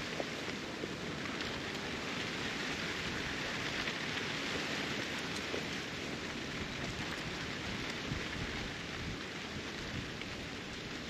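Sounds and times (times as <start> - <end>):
wind gusts buffeting microphone: 0.0 - 11.0.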